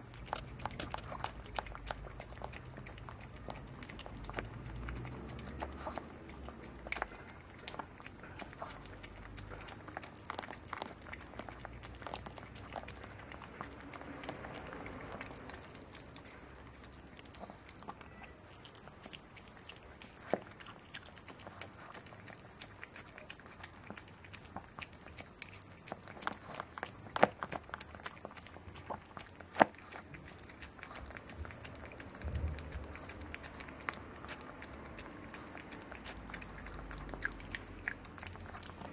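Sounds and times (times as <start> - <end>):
dog licking and eating: 0.0 - 38.9.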